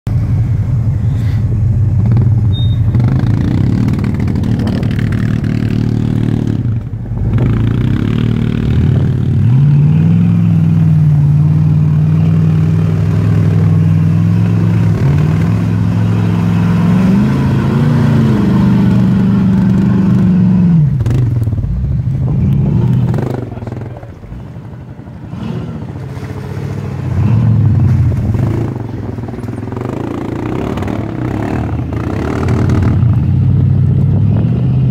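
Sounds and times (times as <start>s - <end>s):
driving through mud and water: 0.1s - 34.9s
engine revving under load: 1.0s - 34.9s.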